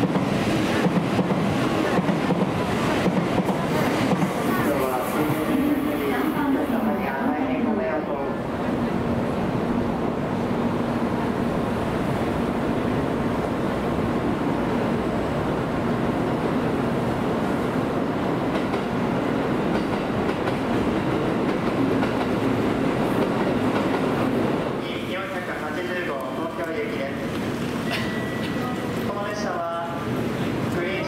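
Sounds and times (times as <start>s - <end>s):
high-speed train rushing and humming: 0.0s - 31.0s.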